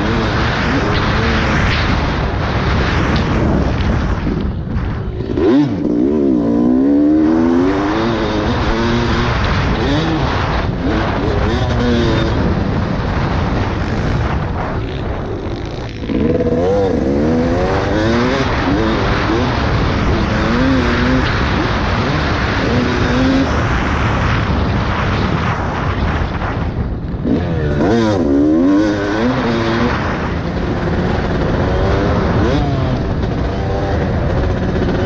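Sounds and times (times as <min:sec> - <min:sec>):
dirt bike engine revving: 0:00.0 - 0:35.0
wind noise on microphone: 0:00.0 - 0:35.0.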